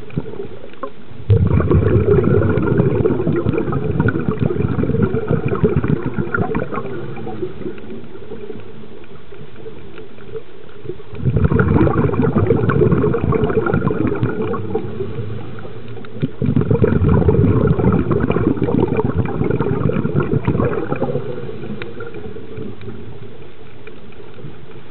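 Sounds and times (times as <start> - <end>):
underwater bubbling and gurgling: 0.0 - 24.9.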